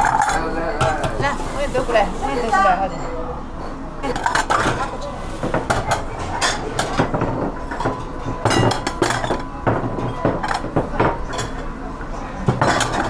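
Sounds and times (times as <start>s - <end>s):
dishes and utensils clinking: 0.0s - 3.2s, 4.0s - 13.0s.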